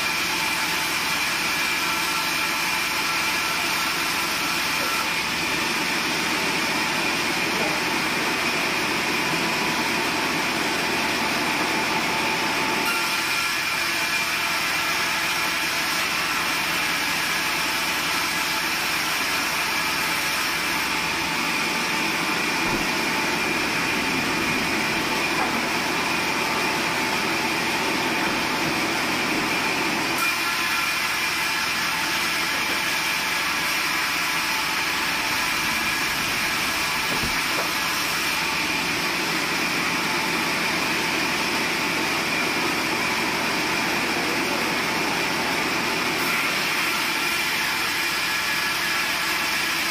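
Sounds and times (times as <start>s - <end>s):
band saw running: 0.0s - 49.9s.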